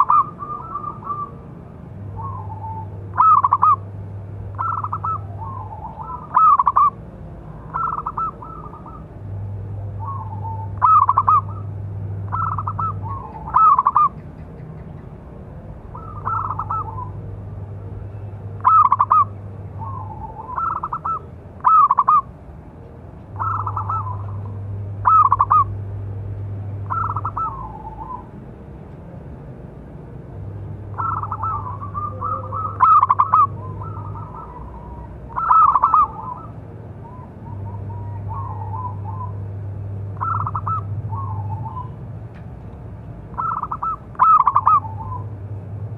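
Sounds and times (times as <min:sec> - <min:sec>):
dove cooing: 0:00.0 - 0:15.1, 0:15.8 - 0:22.3, 0:23.3 - 0:25.8, 0:26.7 - 0:28.4, 0:30.4 - 0:42.0, 0:43.3 - 0:45.4.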